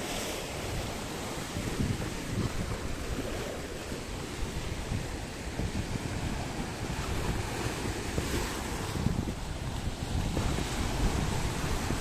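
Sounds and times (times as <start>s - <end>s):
sea surf washing onto shore: 0.0s - 12.0s
wind buffeting microphone: 0.4s - 12.0s.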